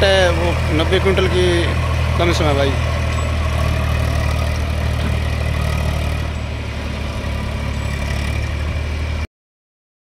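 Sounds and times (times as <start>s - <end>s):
diesel tractor engine under load: 0.0s - 9.3s.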